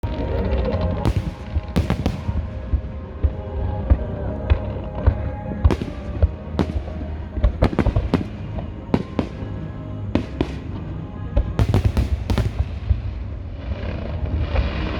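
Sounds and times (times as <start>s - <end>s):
fireworks bangs and crackles: 0.0s - 14.9s
music playing: 0.0s - 14.9s
fireworks deep booms: 0.8s - 14.9s.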